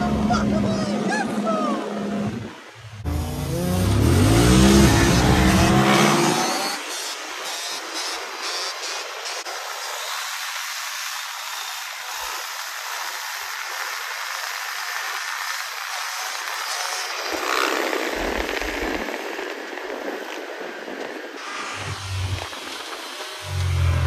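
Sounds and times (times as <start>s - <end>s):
motorbike engines running: 0.0s - 20.0s.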